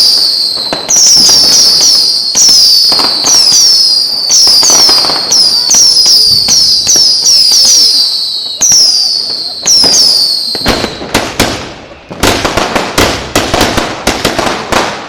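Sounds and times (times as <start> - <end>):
firework whistles falling in pitch: 0.0 - 13.2
firecracker bangs and crackles: 0.0 - 15.0.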